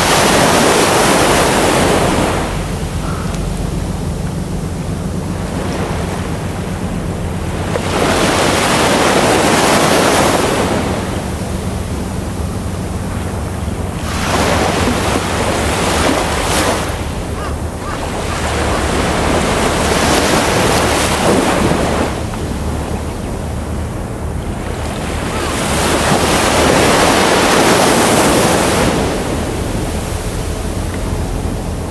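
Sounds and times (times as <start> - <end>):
ocean waves breaking: 0.0 - 31.9
steady low rumble: 0.9 - 8.3, 10.4 - 31.9.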